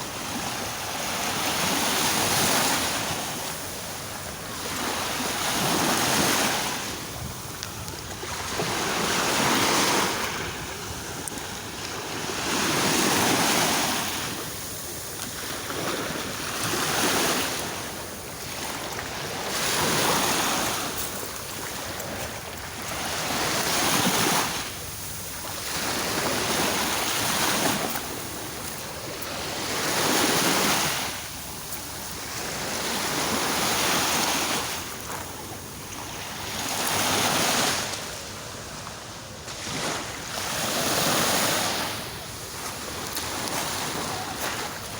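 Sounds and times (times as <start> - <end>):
sea waves washing in: 0.0 - 38.1.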